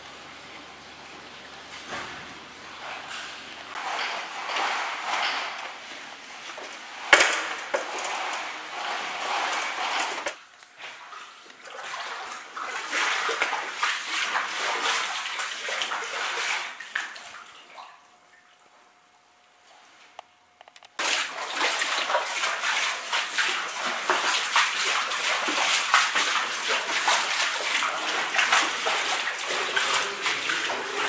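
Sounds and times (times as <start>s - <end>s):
water sloshing and splashing: 0.0s - 18.8s, 21.0s - 31.0s.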